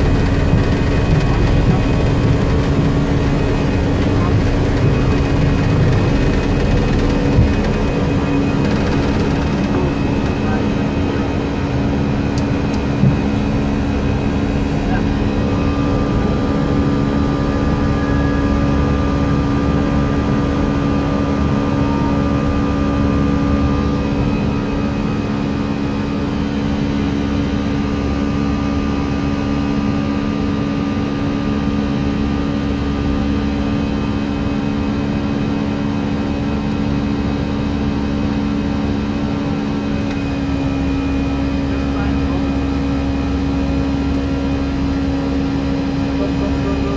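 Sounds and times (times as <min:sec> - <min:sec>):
constant low hum: 0:00.0 - 0:46.9
engine and airflow rush: 0:00.0 - 0:46.9.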